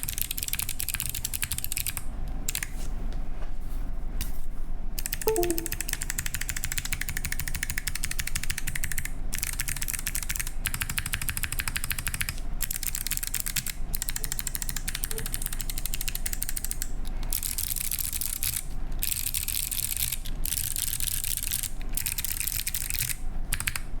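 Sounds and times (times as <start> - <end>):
fast typing on clicky keyboard: 0.0 - 2.7, 5.0 - 23.8.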